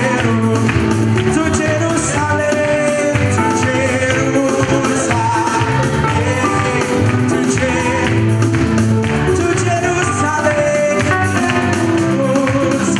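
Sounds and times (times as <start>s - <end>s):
upbeat gospel music with singing: 0.0s - 12.9s.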